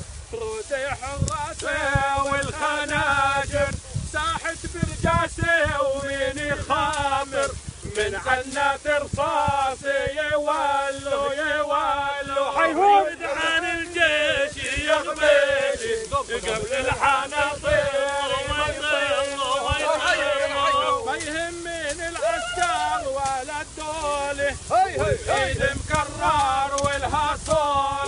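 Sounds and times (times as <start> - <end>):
men singing a chant: 0.0 - 28.0.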